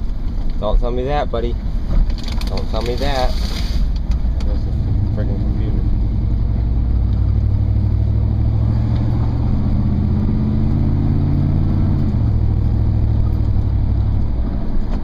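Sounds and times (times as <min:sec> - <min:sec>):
large vehicle engine and road noise: 0:00.0 - 0:15.0.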